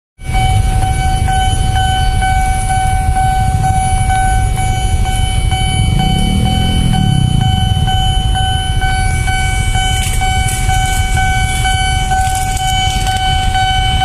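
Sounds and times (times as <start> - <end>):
idling motorcycles and cars: 0.2 - 14.0
level crossing alarm ringing: 0.2 - 14.0
low wavering tone: 0.2 - 14.0.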